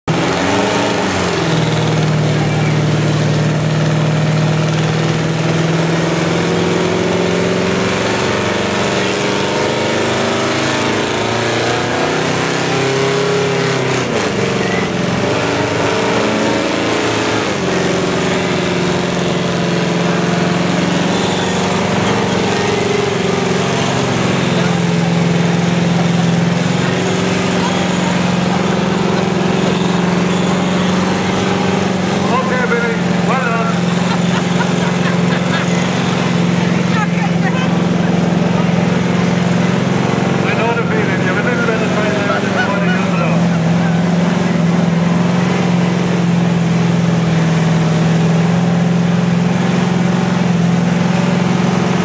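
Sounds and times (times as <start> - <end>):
car engine revving high: 0.0 - 52.0
tyres spinning on wet tarmac: 0.0 - 52.0.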